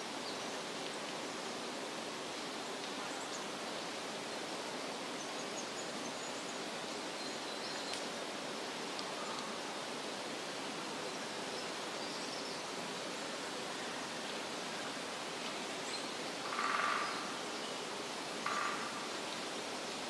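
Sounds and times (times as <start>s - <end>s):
rushing forest ambience hiss: 0.0s - 20.0s.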